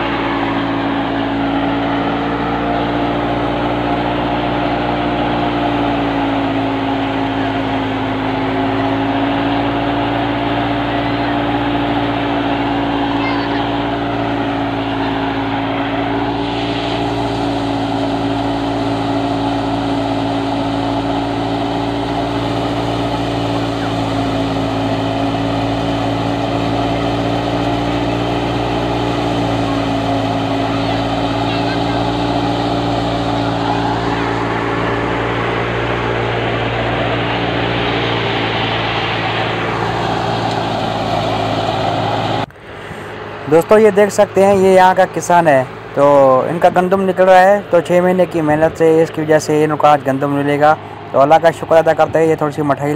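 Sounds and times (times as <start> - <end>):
thresher drum rushing: 0.0 - 42.5
machine hum: 0.0 - 52.9
tractor engine drone: 0.0 - 52.9.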